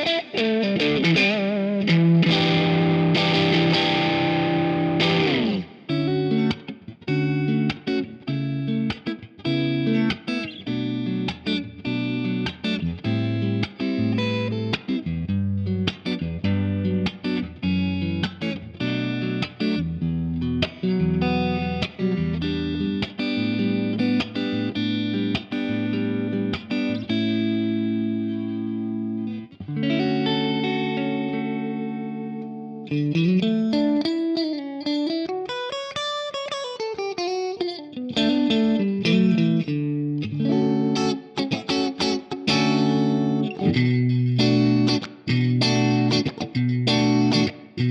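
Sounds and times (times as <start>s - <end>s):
electric guitar through an amp: 0.0s - 47.9s.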